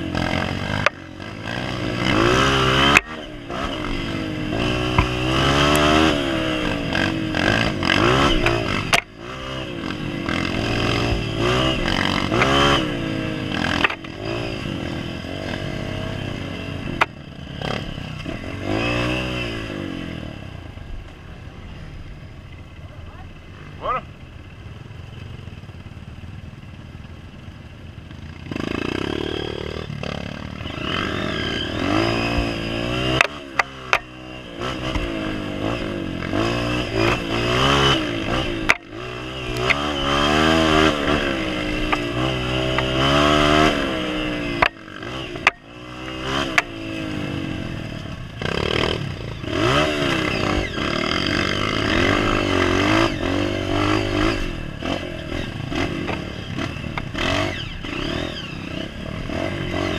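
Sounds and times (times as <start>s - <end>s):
dirt bike engine revving: 0.0s - 20.8s, 28.1s - 59.9s.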